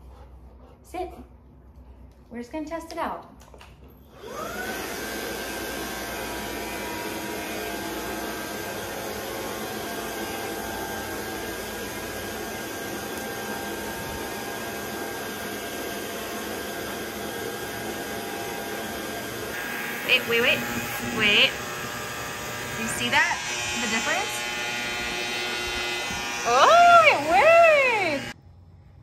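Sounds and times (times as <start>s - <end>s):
vacuum cleaner motor whine: 4.1s - 28.4s.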